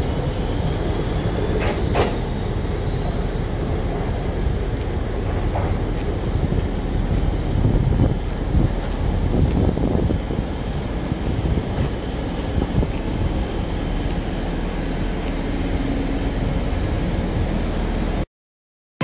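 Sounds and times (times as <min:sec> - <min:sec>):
electric train running: 0:00.0 - 0:18.2.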